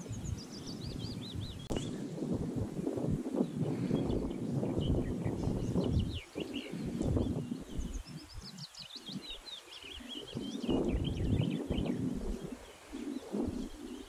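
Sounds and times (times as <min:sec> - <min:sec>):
small birds chirping and trilling: 0:00.0 - 0:14.0
wind gusting on microphone: 0:00.0 - 0:14.0.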